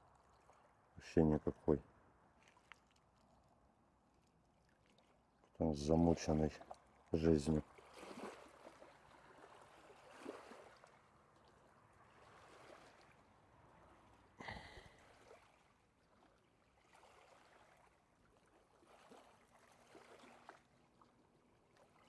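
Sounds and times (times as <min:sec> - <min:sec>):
faint water at shore: 0:00.0 - 0:22.0.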